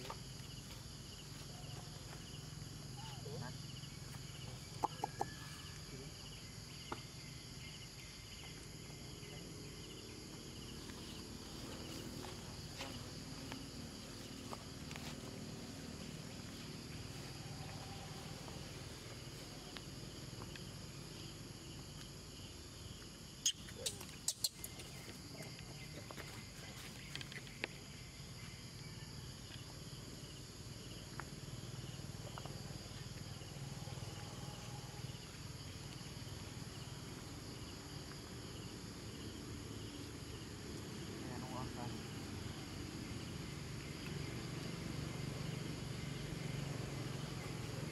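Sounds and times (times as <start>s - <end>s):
insect trills: 0.0s - 47.9s.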